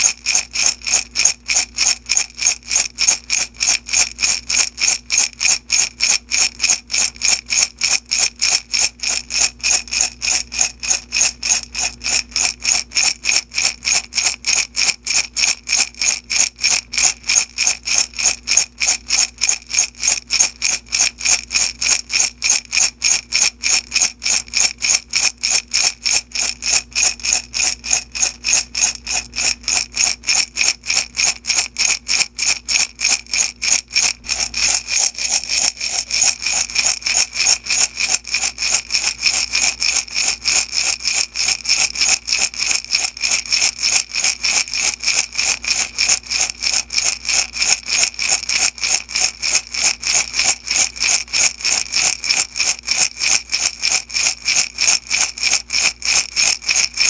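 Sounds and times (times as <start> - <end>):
beads rattling in glass jar: 0.0 - 57.0.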